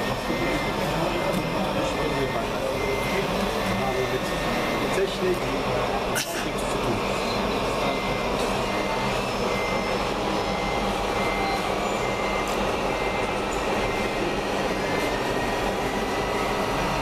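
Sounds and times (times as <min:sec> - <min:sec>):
model construction machines running: 0:00.0 - 0:17.0.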